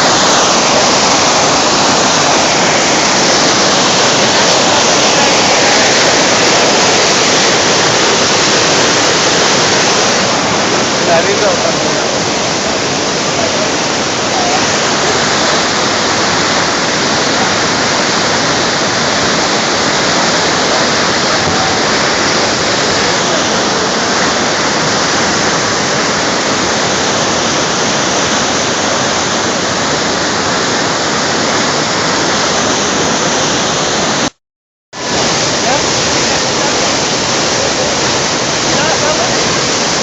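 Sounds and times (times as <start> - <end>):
waterfall rushing: 0.0 - 34.4, 35.0 - 40.0.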